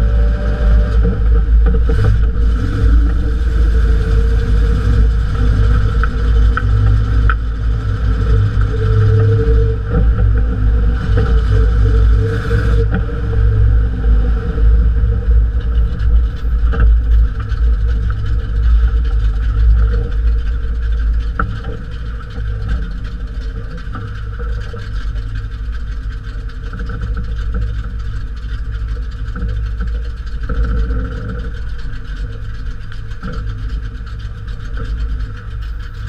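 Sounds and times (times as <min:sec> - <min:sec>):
engine rumbling and idling: 0:00.0 - 0:36.0
road noise: 0:00.0 - 0:36.0.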